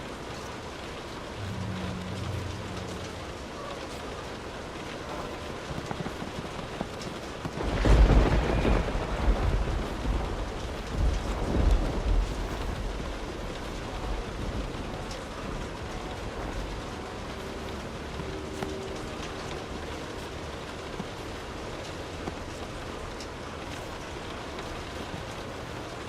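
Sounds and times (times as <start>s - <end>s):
steady rain falling: 0.0s - 26.0s
thunder rumbling: 0.9s - 22.2s.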